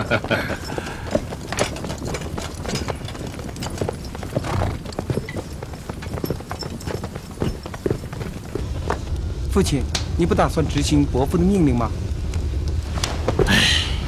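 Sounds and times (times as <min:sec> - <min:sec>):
horse hooves clopping: 0:00.0 - 0:13.5.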